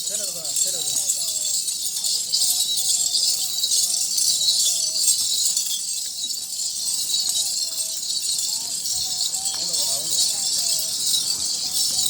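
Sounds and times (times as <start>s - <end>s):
goat bells jingling: 0.0s - 12.0s.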